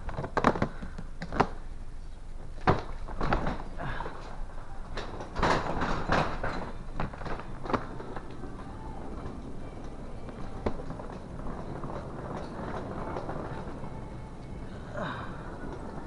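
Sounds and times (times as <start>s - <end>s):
delivery cart rattling: 2.4s - 16.0s.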